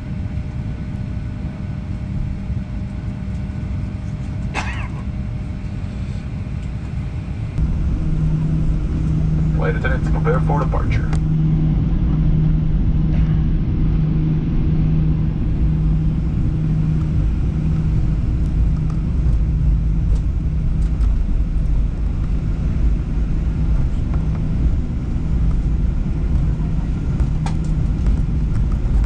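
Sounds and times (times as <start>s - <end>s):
constant low hum: 0.0s - 29.0s
jet engine cabin drone: 0.0s - 29.0s.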